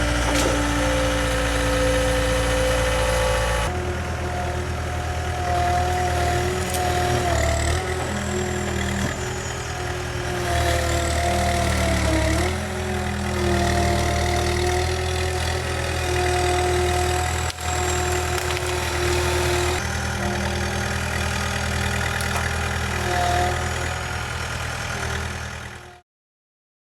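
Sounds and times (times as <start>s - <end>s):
hydraulic whine: 0.0s - 25.1s
loader engine running: 0.0s - 26.0s.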